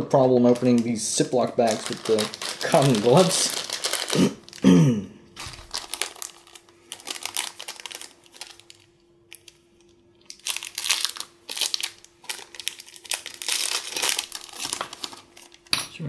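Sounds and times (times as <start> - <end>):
plastic bag crinkling: 0.1 - 4.8, 5.4 - 9.6, 10.3 - 15.7.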